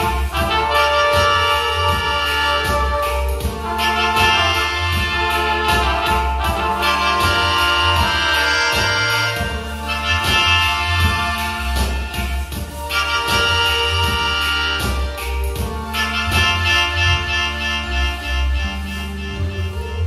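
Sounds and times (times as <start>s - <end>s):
instrumental dance music: 0.0s - 20.0s.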